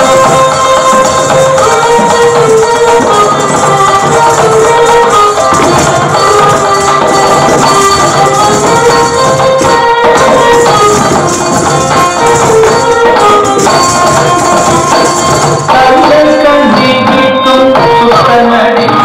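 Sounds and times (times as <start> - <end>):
dance music melody: 0.0 - 18.8
rhythmic percussion with jingling: 0.0 - 19.0.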